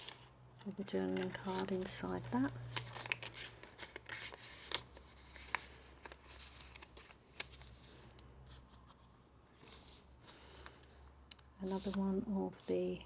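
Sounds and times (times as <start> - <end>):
paper rustling: 0.0 - 11.0, 11.6 - 12.9.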